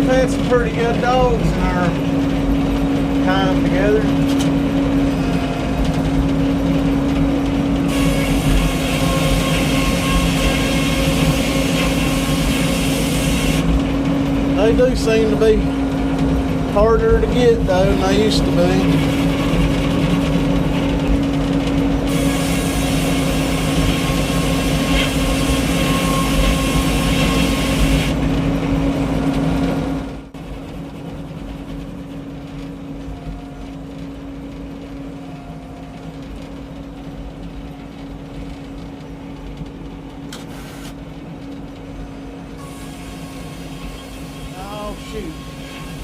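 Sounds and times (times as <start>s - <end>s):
circular sawmill running: 0.0s - 46.0s.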